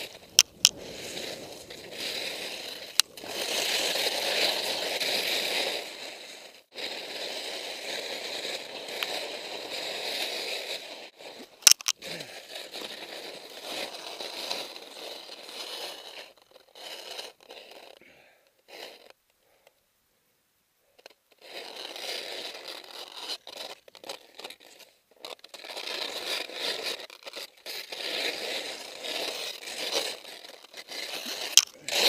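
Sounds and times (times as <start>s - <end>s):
skis scraping over crusty snow: 0.0s - 19.2s, 21.0s - 32.0s.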